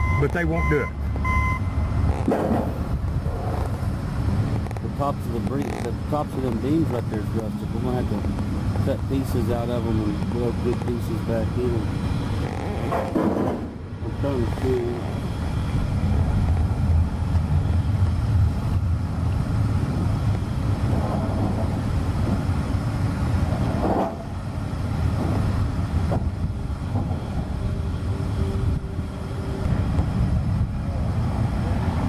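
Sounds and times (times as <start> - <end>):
highway traffic rumble: 0.0 - 32.0.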